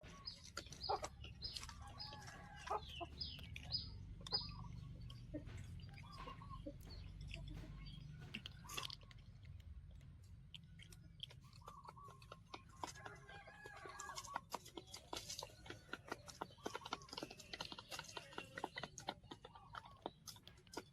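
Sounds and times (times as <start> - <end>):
chickens clucking: 0.0 - 20.9.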